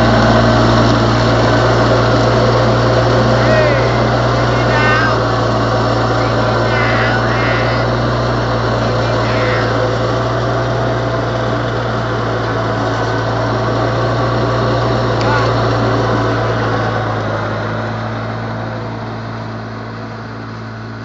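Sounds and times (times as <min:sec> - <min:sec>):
mower engine droning: 0:00.0 - 0:21.0.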